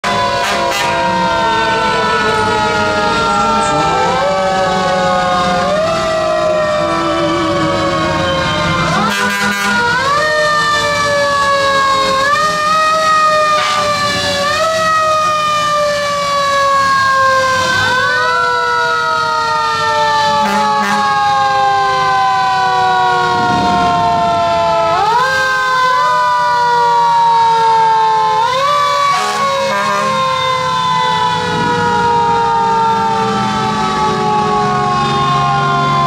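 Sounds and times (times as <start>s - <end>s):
mechanical siren wailing: 0.0s - 36.0s.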